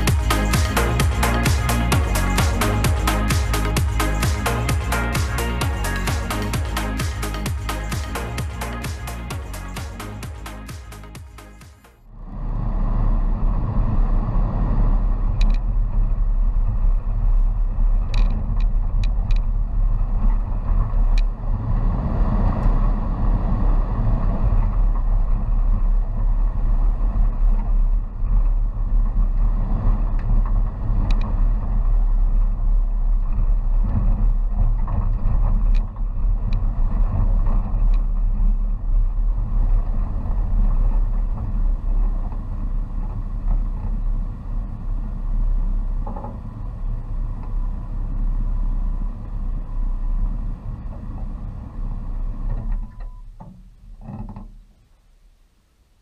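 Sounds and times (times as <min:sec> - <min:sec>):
car engine low rumble: 0:00.0 - 0:56.0.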